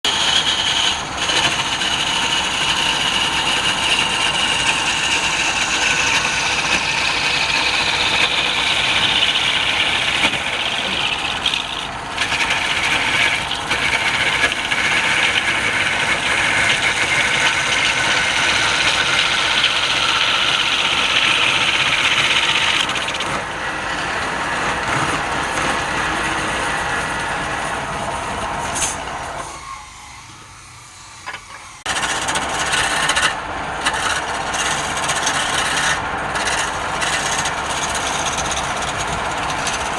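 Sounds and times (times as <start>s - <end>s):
wood lathe tool scraping: 0.0s - 39.9s.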